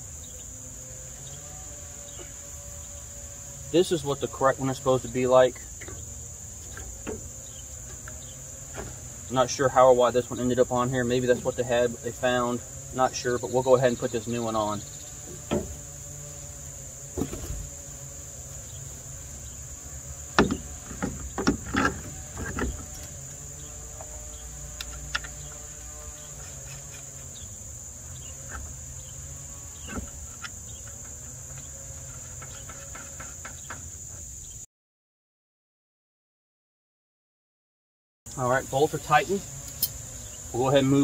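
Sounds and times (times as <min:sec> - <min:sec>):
high insect drone: 0:00.0 - 0:34.7, 0:38.3 - 0:41.0.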